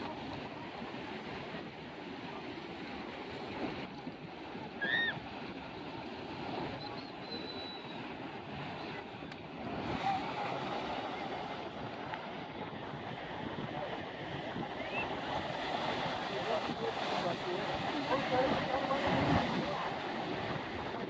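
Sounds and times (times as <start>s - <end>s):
small waves breaking: 0.0s - 21.0s
wind: 0.0s - 21.0s.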